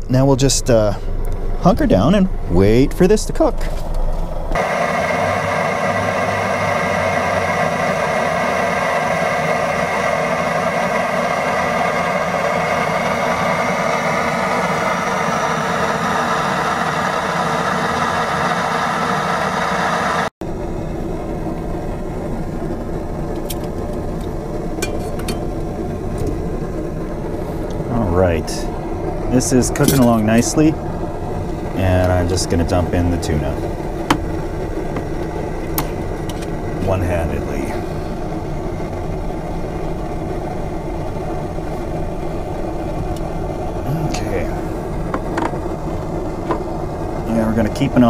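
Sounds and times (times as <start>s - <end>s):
gas stove hissing: 0.0s - 48.0s.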